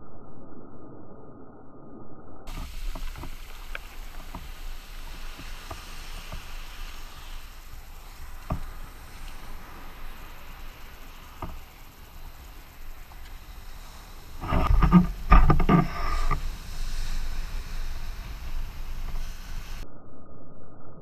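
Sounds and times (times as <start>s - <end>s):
knocks and splashes: 2.5s - 19.8s
surf breaking: 2.5s - 19.8s.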